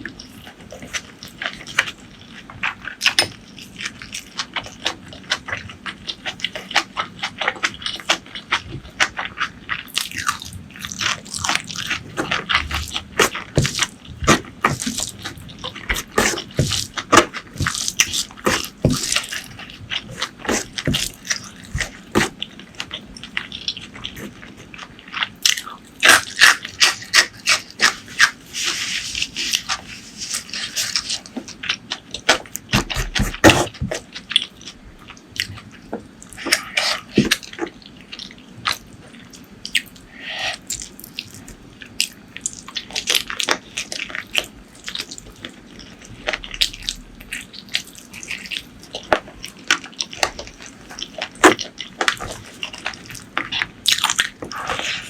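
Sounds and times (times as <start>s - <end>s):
person chewing wet food: 0.0s - 55.0s.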